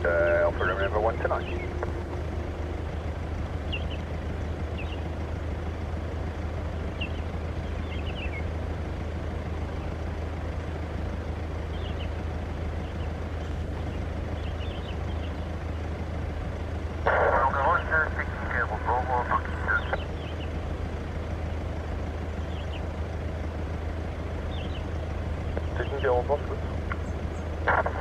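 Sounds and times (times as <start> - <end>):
distant jet engines rumbling: 0.0 - 28.0.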